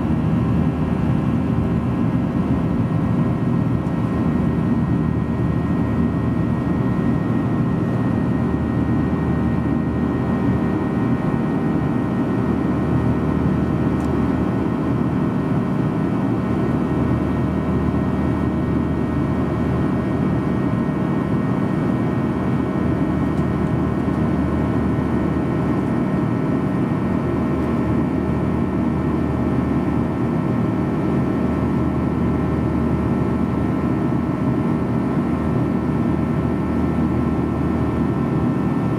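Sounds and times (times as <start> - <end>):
jet engine cabin roar: 0.0 - 38.9.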